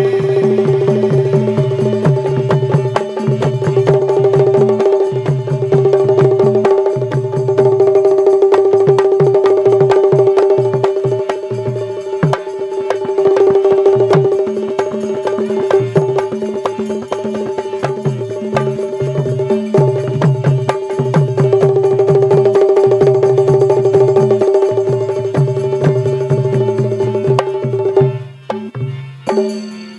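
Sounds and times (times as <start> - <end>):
fast hand drum rhythm: 0.0 - 29.7
steady held tone: 0.0 - 29.9.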